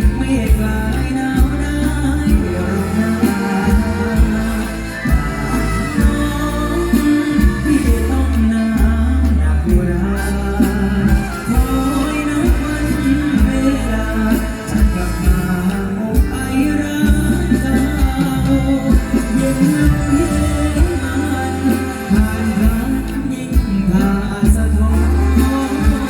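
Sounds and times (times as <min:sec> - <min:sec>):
heavy bass: 0:00.0 - 0:26.0
live band music: 0:00.0 - 0:26.0
steady drum beat: 0:00.0 - 0:26.0.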